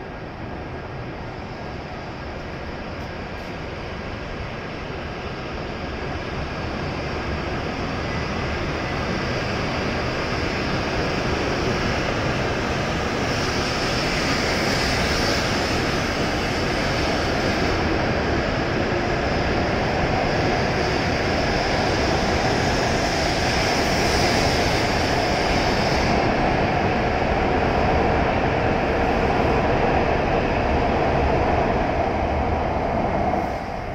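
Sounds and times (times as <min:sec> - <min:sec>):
train departing: 0:00.0 - 0:33.9
train hum: 0:00.0 - 0:33.9.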